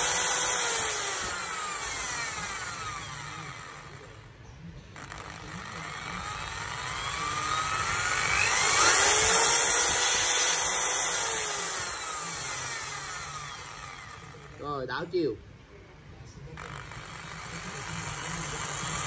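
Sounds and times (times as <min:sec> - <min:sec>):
electric drill motor whine: 0:00.0 - 0:04.3, 0:05.0 - 0:14.8, 0:16.6 - 0:19.0.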